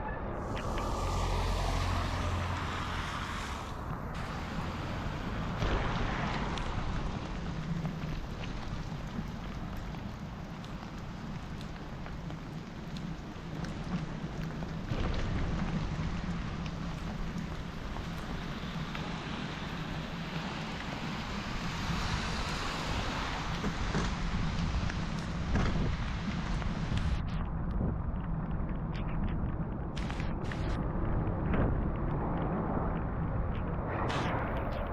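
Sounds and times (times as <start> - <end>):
low rumble: 0.0 - 19.4, 23.4 - 34.9
heavy rain in a forest: 0.4 - 27.4, 30.0 - 33.0
close raindrop hits: 0.4 - 34.9.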